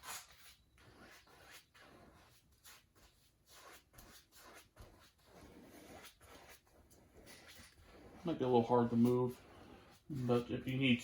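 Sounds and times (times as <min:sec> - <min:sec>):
paintbrush swishing on canvas: 0:00.0 - 0:11.0.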